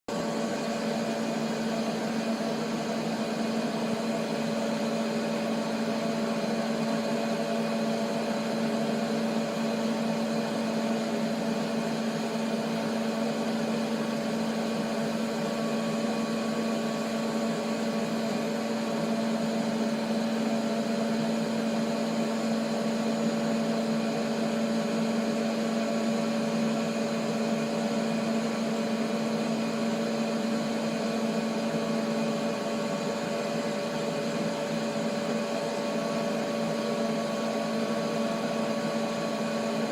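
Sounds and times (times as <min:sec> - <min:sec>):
machine motor hum: 0:00.1 - 0:39.9.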